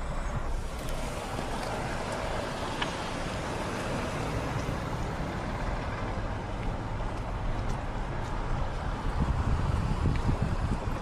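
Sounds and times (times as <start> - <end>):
vehicle road noise: 0.0 - 11.0.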